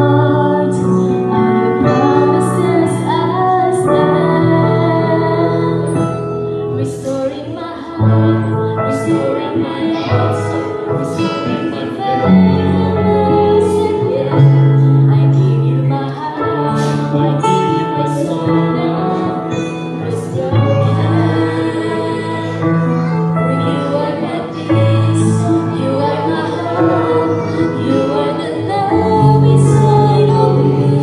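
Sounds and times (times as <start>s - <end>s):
woman and man singing duet: 0.0s - 31.0s.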